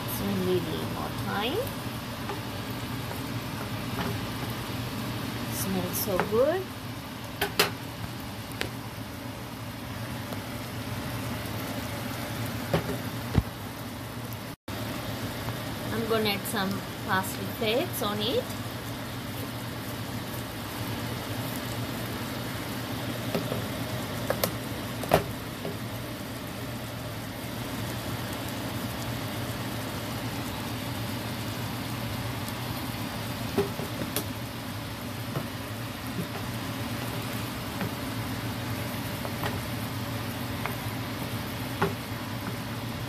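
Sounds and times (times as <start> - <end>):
low steady hum: 0.0 - 43.0
sauce bubbling and sizzling in pan: 0.0 - 43.0.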